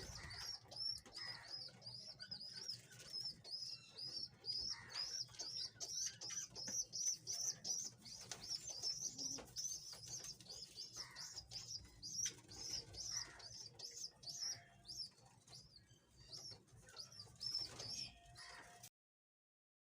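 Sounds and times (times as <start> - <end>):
budgerigars chirping: 0.0 - 18.6.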